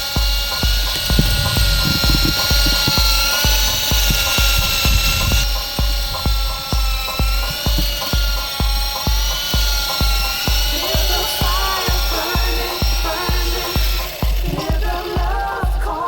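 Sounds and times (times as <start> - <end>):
background music with beat: 0.0 - 16.0
toy helicopter motor whine: 0.0 - 16.0.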